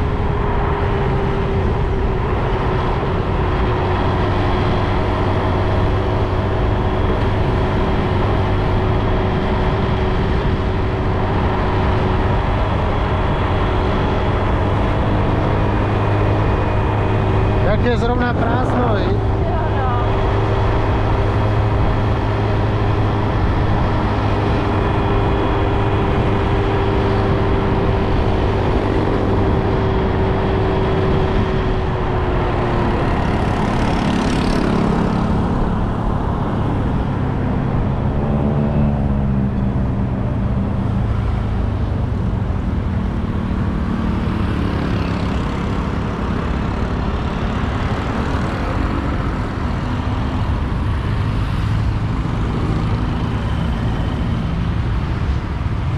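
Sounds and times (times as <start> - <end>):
road noise: 0.0 - 55.9
wind: 0.0 - 55.9.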